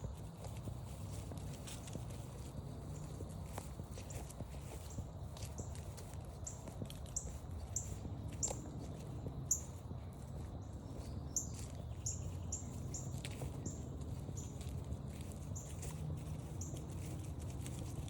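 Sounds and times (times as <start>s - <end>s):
low steady background rumble: 0.0s - 18.0s
soft footsteps on trail: 0.0s - 18.0s.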